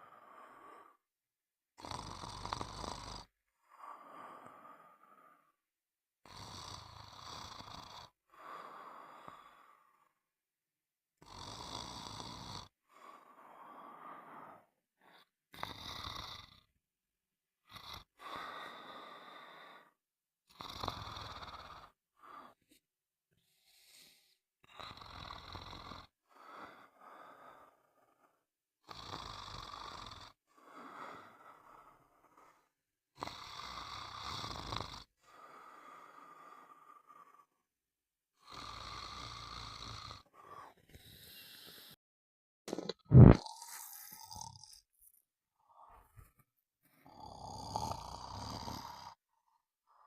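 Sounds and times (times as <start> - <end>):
person snoring: 1.8 - 5.5, 6.2 - 10.2, 11.2 - 16.7, 17.6 - 22.6, 23.5 - 28.3, 28.9 - 37.6, 38.4 - 42.0, 42.7 - 44.9, 47.0 - 50.0.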